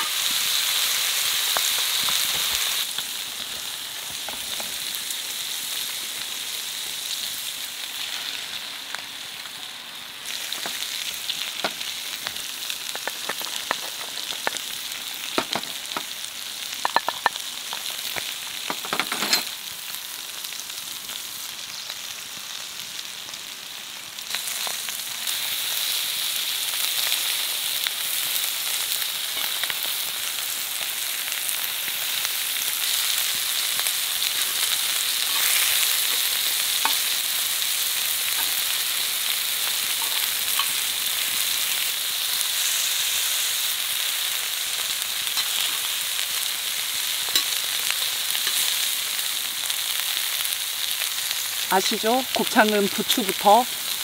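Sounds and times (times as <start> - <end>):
food sizzling on griddle: 0.0 - 54.0.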